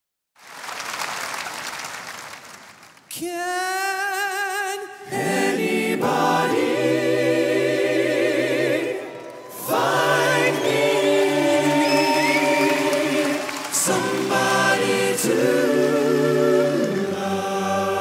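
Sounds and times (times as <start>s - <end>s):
male vocal group singing harmony: 3.2s - 18.0s.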